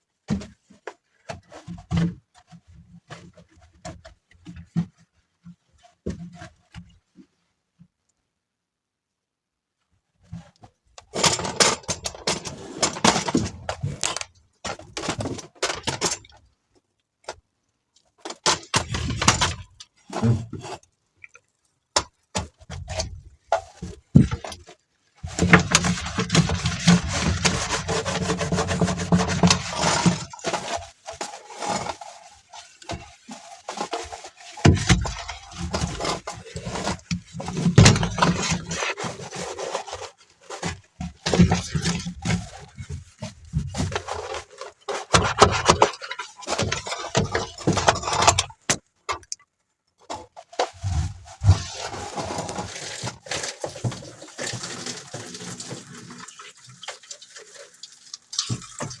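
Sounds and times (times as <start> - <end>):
scraping and knocking of objects: 0.3 - 7.2, 10.2 - 16.5, 18.1 - 59.0.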